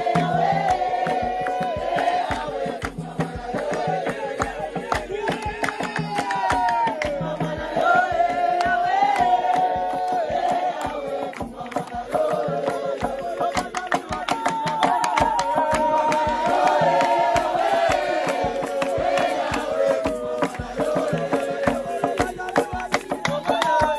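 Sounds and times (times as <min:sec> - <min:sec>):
group singing gospel song: 0:00.0 - 0:23.9
steady percussive beat: 0:00.0 - 0:23.9.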